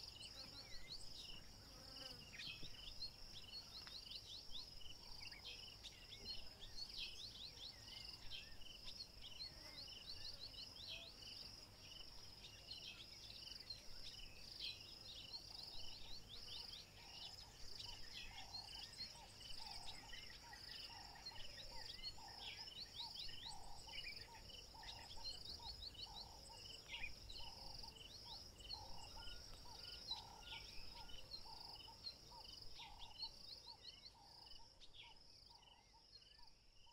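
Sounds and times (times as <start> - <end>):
crickets chirring: 0.0 - 36.5.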